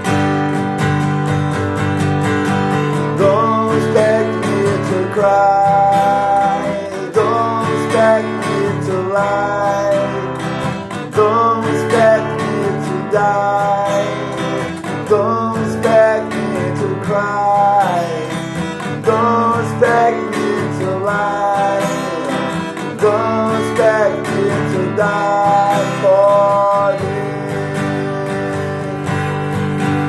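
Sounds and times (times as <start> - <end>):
acoustic guitar strumming: 0.0 - 30.0
gliding guitar melody: 0.0 - 30.0.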